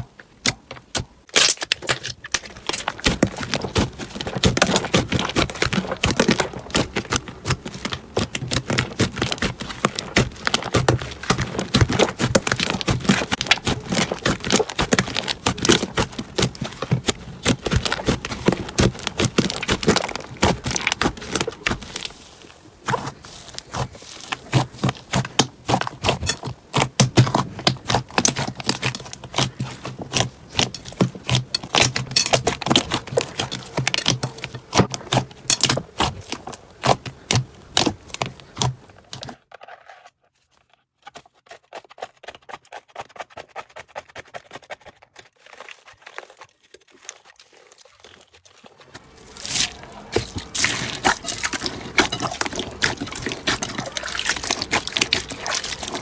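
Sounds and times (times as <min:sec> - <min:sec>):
slime crackling and popping: 0:00.4 - 0:39.2, 0:48.8 - 0:56.0.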